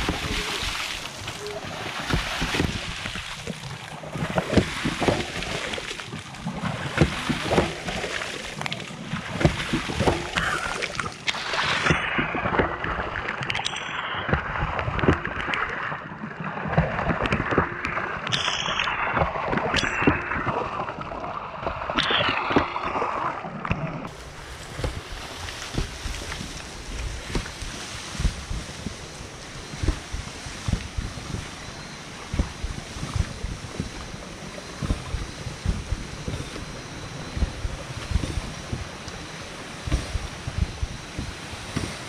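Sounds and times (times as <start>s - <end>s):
water splashing and gurgling: 0.0s - 42.0s.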